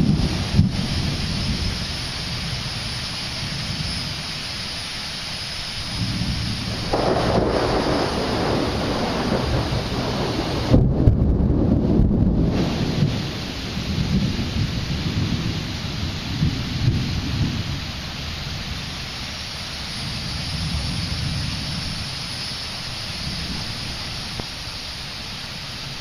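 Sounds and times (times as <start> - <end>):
thunder rolling: 0.0 - 4.4, 5.8 - 19.0, 19.9 - 24.4
steady rain: 0.0 - 26.0.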